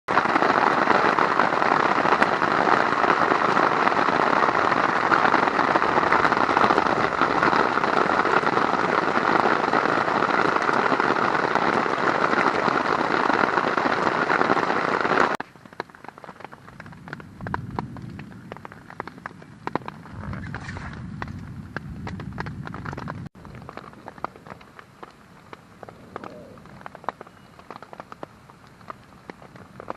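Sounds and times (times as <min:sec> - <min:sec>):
heavy rain on a tarp: 0:00.1 - 0:29.9.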